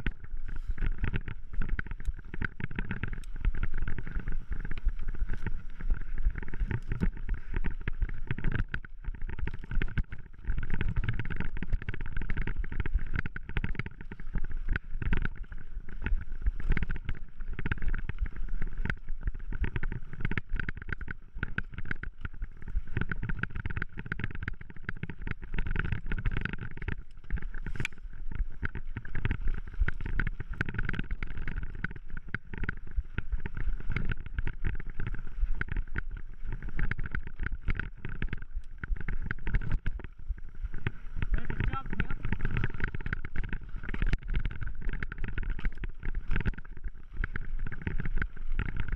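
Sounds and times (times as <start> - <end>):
bike tyres crunching over dirt: 0.0 - 48.9
bike rattling and knocking: 0.8 - 48.9.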